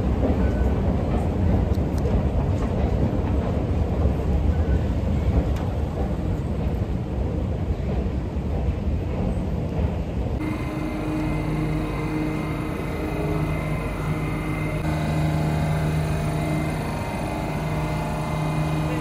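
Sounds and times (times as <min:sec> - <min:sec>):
metro station noise: 0:00.0 - 0:19.0
subway train humming: 0:00.0 - 0:19.0.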